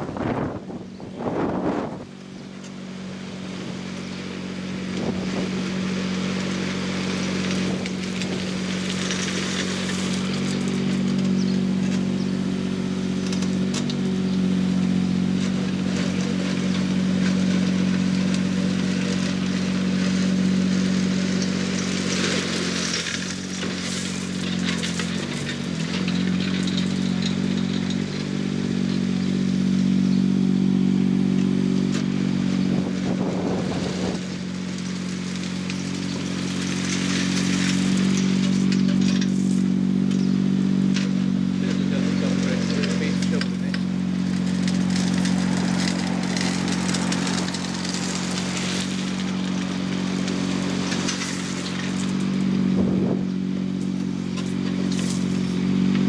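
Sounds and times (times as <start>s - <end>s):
gravel crunching and scraping: 0.0s - 56.0s
small diesel engine running: 0.0s - 56.0s.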